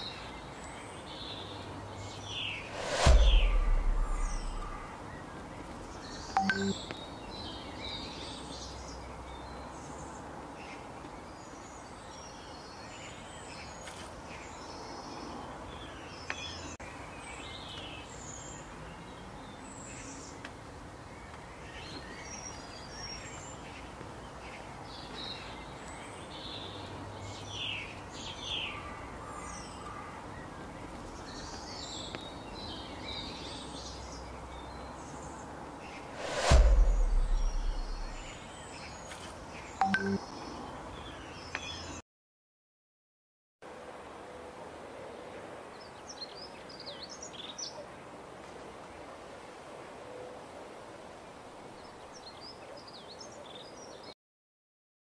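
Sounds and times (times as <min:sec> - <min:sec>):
songbirds chirping: 0:00.0 - 0:36.6, 0:37.2 - 0:42.0, 0:45.1 - 0:49.2, 0:51.0 - 0:54.2
outdoor background hiss: 0:00.0 - 0:42.0, 0:43.7 - 0:54.1.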